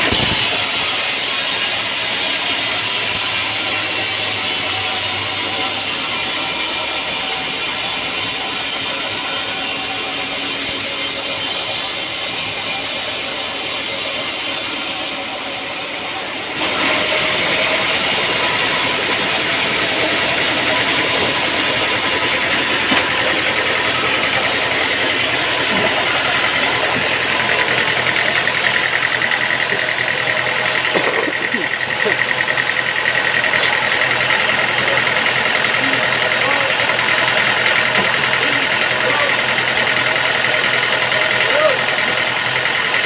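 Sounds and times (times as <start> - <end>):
engine running with rattle: 0.0 - 43.0.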